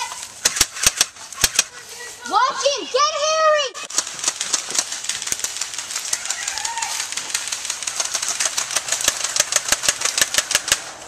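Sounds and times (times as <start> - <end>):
airsoft guns firing: 0.0 - 1.8, 3.8 - 11.0.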